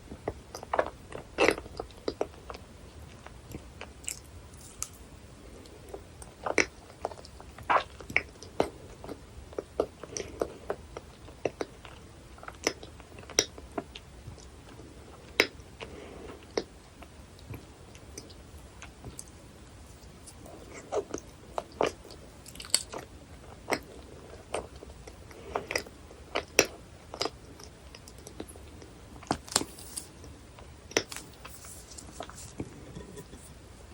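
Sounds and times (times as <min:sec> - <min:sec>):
close-miked chewing: 0:00.1 - 0:33.5.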